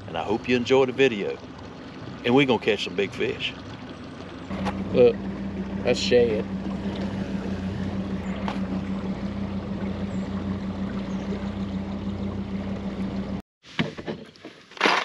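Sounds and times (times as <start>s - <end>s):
boat motor running: 0.0s - 13.4s.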